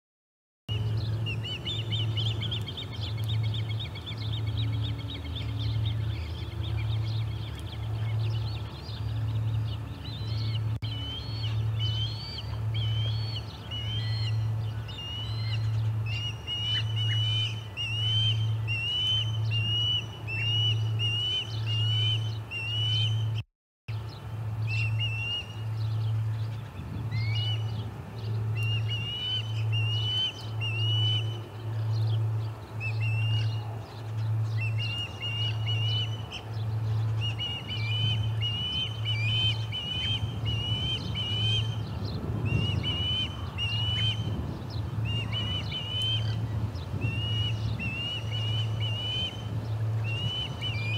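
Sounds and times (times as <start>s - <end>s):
low pulsing hum: 0.7s - 50.9s
ospreys chirping calls: 0.8s - 23.1s, 24.7s - 50.9s.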